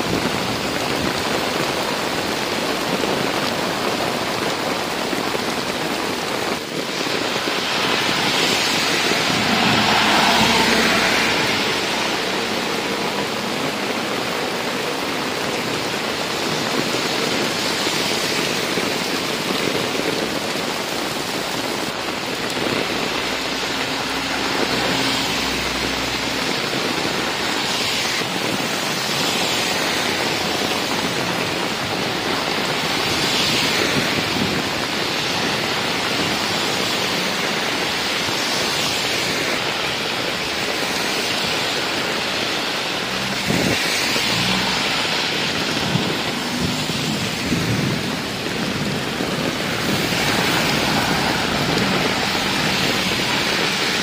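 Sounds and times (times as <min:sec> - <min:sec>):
heavy rain on road: 0:00.0 - 0:54.0
vehicles swishing through water: 0:00.0 - 0:54.0.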